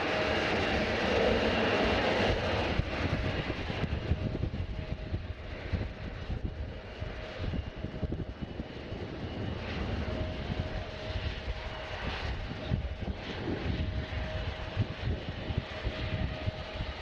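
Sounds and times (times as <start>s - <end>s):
distant airliner engines humming: 0.0s - 17.0s.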